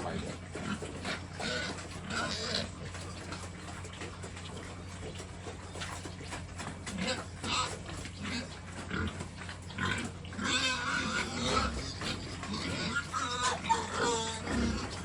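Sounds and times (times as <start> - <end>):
pigs grunting: 0.0 - 15.0
pigs squealing: 0.0 - 15.0.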